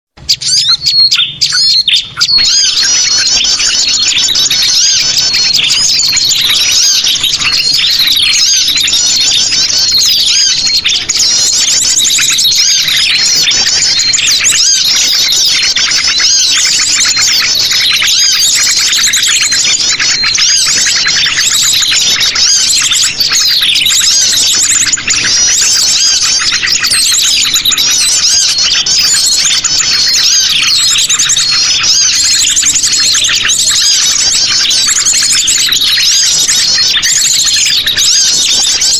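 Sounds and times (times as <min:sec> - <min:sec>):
birds chirping and twittering: 0:00.2 - 0:38.9.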